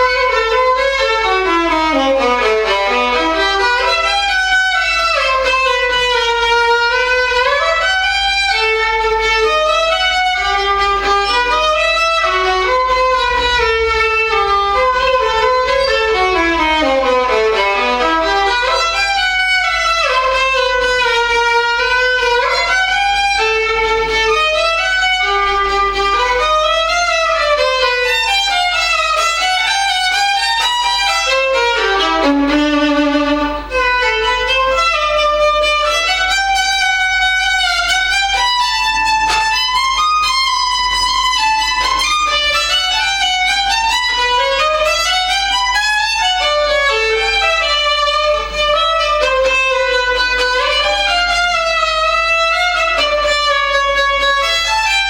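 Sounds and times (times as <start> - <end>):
solo violin fast scales: 0.0 - 55.0.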